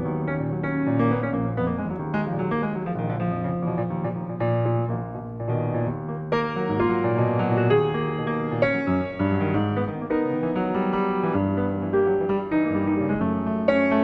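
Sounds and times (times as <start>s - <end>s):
solo piano playing: 0.0s - 14.0s.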